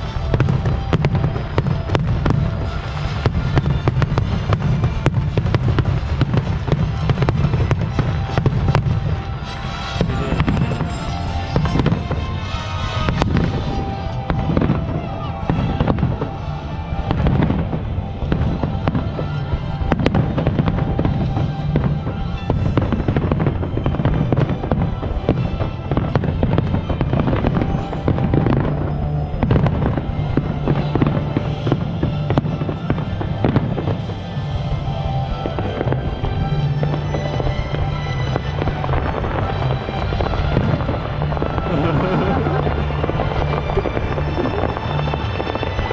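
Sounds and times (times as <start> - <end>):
fireworks bursting and crackling: 0.0 - 45.9
music playing: 0.0 - 45.9.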